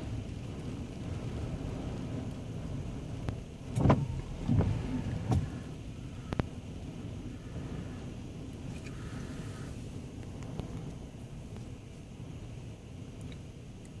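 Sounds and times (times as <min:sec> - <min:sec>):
wind buffeting microphone: 0:00.0 - 0:11.3
wind and surf rumble: 0:00.0 - 0:14.0.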